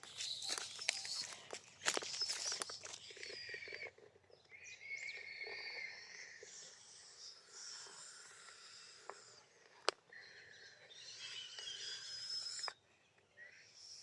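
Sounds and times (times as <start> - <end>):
birds calling: 0.0 - 14.0
insects calling: 0.0 - 14.0.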